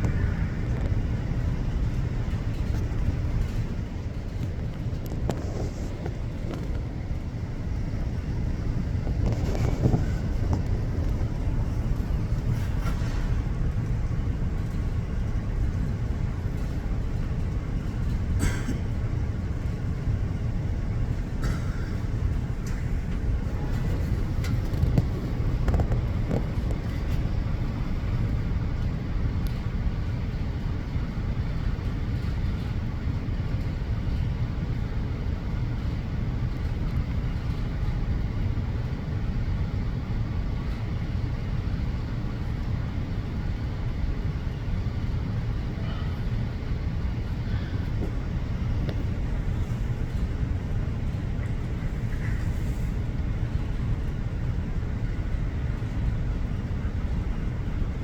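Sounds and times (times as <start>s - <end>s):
low outdoor rumble: 0.0s - 58.0s.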